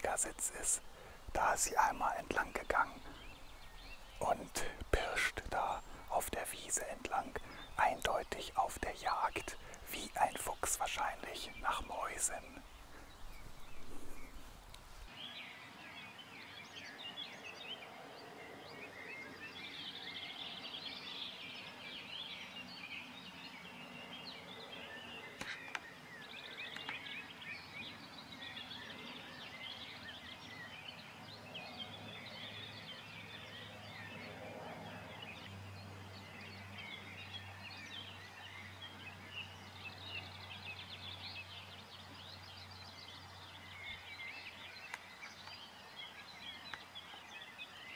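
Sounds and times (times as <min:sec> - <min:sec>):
birds singing and calling: 0:00.0 - 0:47.9.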